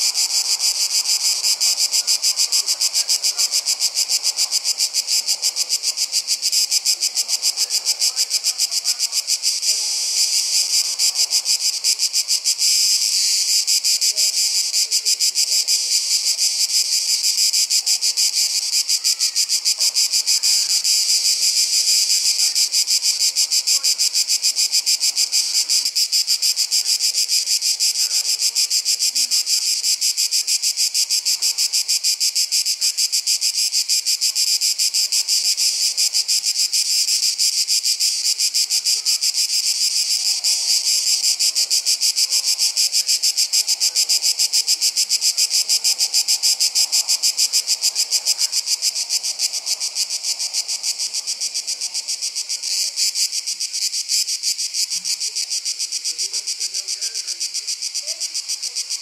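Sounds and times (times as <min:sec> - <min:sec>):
insects chorus shrilling: 0:00.0 - 0:59.0.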